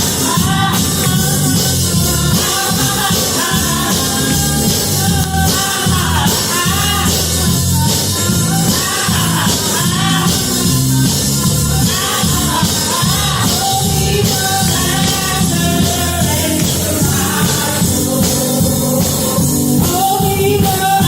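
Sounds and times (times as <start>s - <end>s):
band with drums and bass: 0.0s - 21.0s
person singing: 0.0s - 21.0s.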